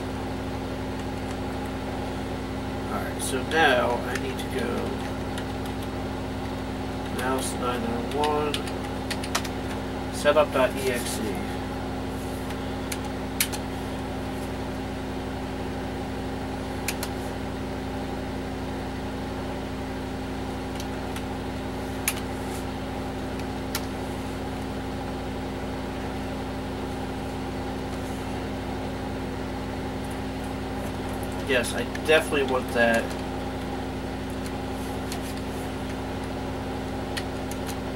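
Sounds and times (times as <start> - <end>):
desktop computer humming: 0.0 - 37.9.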